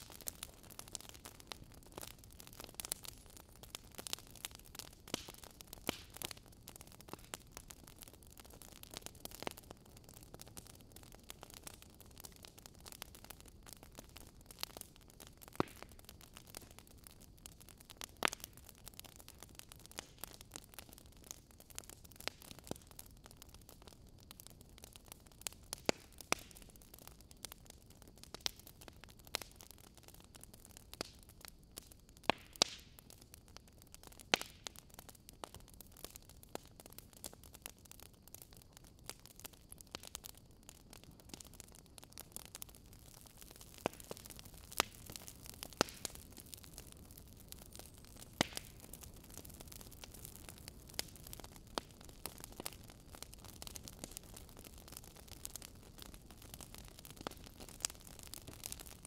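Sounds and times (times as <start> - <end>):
fire crackling in a fireplace: 0.0 - 59.0.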